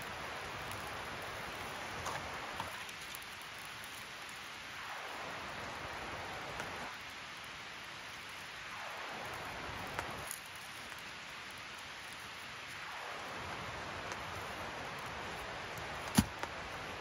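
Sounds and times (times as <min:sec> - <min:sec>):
campfire kindling hissing: 0:00.0 - 0:17.0
fire crackles: 0:00.0 - 0:17.0.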